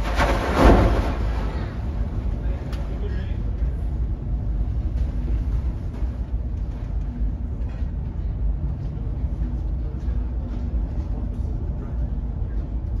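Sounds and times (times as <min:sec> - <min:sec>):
ship engine low rumble: 0:00.0 - 0:13.0.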